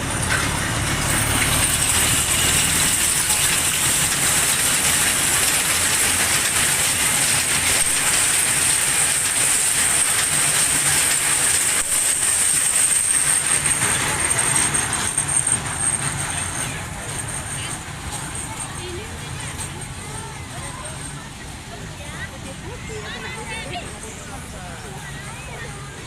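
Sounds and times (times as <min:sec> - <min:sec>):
ride train rattling: 0:00.0 - 0:26.0.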